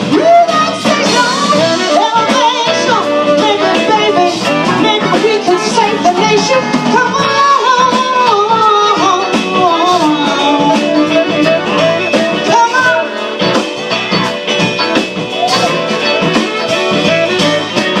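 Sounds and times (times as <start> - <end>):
guitar: 0.0 - 18.0
lead melody bending in pitch: 0.6 - 18.0.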